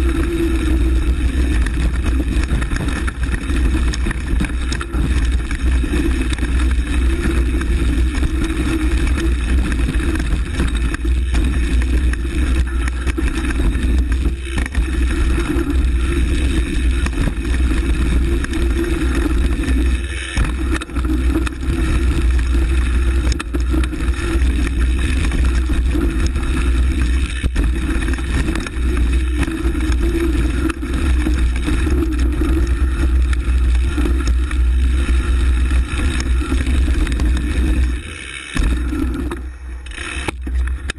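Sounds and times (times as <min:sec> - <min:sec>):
bike rattling: 0:00.0 - 0:40.9
bike tyres on dirt trail: 0:00.0 - 0:40.9.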